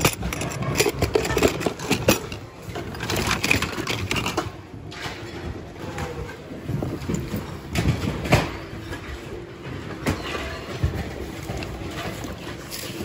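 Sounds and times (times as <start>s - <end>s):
plastic items clattering together: 0.0s - 13.0s.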